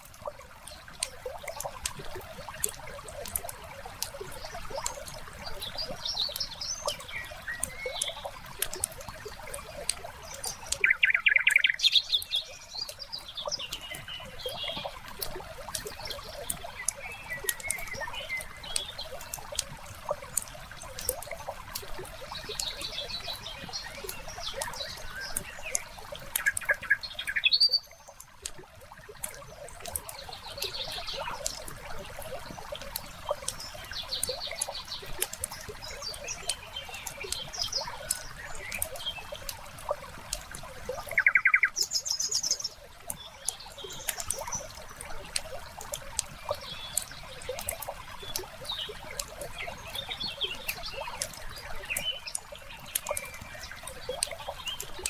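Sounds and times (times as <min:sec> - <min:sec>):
songbirds chirping: 0:00.0 - 0:55.0
water trickling: 0:00.0 - 0:55.0.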